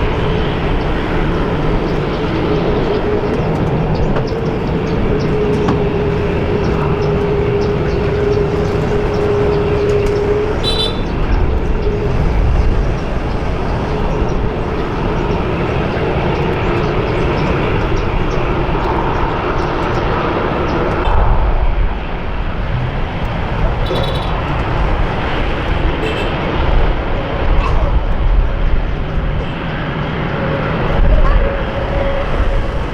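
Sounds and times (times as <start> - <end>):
jet engines running: 0.0 - 32.9.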